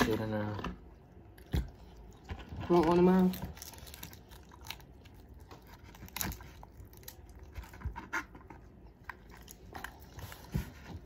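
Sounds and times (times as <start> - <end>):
biting and chewing seafood: 0.0 - 11.0.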